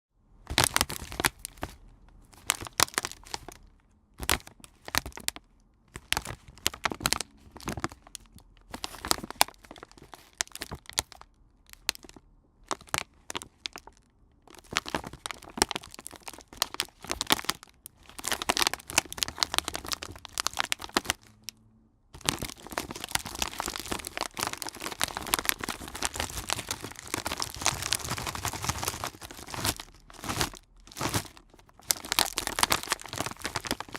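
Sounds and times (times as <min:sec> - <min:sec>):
plastic packaging crinkling: 0:00.5 - 0:21.6, 0:22.2 - 0:33.9.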